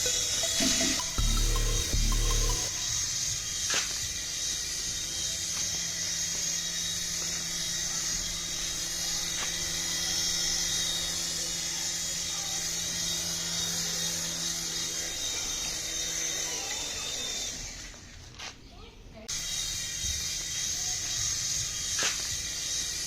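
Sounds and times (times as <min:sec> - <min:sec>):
toy motor whirring over hum: 0:00.0 - 0:18.5, 0:19.2 - 0:23.0.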